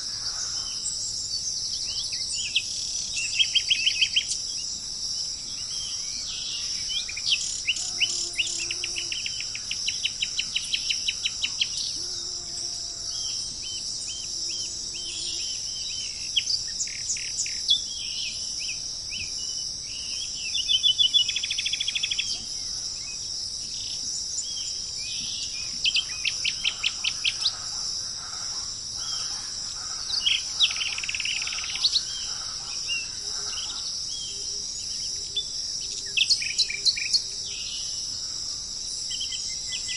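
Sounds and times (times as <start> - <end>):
birds chirping and trilling: 0.0 - 12.3, 13.1 - 38.3
insects droning: 0.0 - 39.9.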